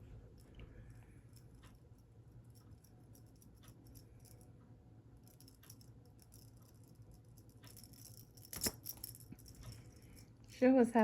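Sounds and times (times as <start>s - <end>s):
low room hum: 0.0s - 11.0s
faint light clicks and rattles: 0.2s - 11.0s.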